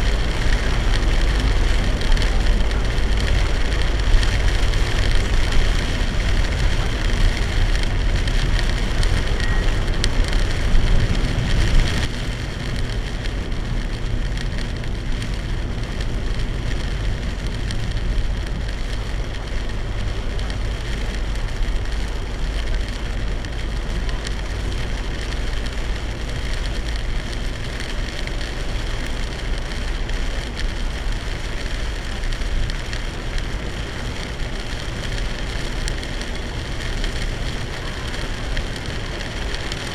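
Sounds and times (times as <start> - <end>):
heavy rain on car: 0.0 - 39.9
tyre and road noise: 0.0 - 39.9.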